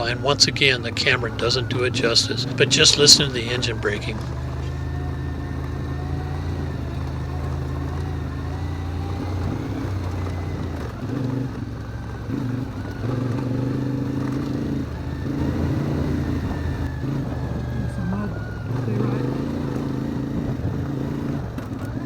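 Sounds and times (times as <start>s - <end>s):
motorcycle engine braking: 0.0s - 22.0s.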